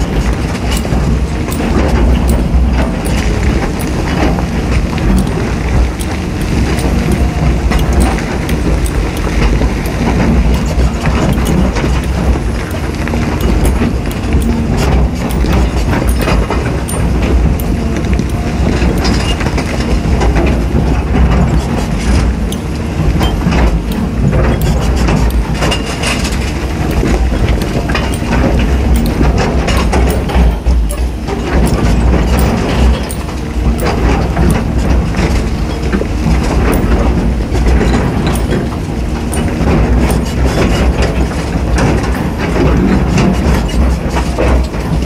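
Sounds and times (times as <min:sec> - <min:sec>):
diesel engine running: 0:00.0 - 0:45.0
excavator bucket digging rock: 0:00.0 - 0:45.0.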